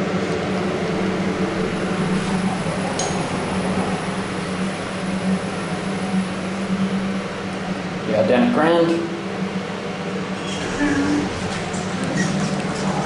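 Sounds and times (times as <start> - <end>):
lift car humming: 0.0 - 13.0.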